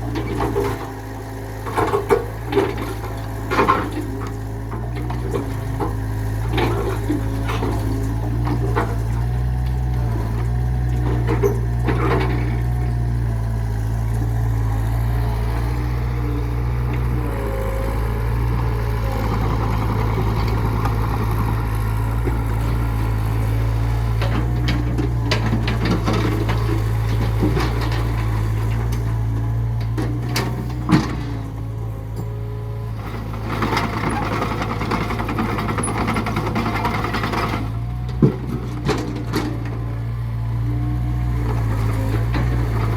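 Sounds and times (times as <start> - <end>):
heavy machine engine running: 0.0 - 42.9.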